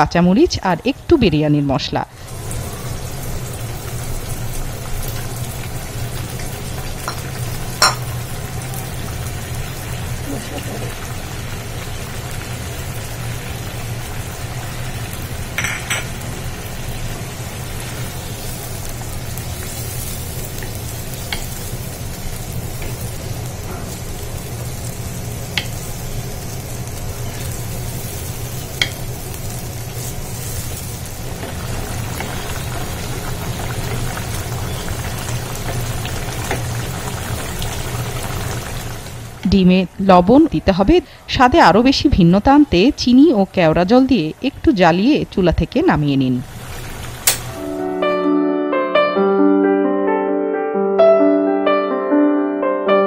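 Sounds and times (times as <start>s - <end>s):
gravy sizzling and bubbling: 0.0s - 47.6s.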